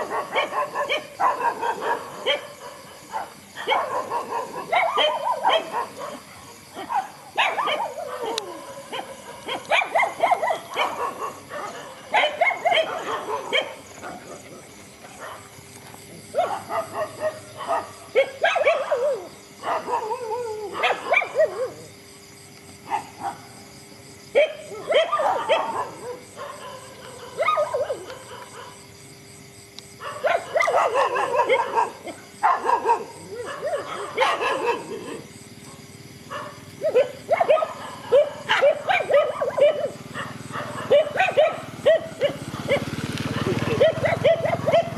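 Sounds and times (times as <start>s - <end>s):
dogs barking and yipping: 0.0s - 22.1s, 22.7s - 29.1s, 30.0s - 44.9s.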